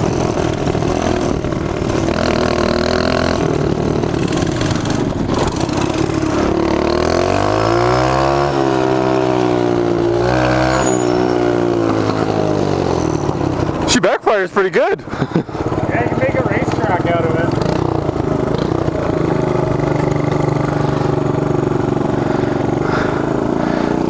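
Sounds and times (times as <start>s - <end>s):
mini bike engine running: 0.0s - 24.0s.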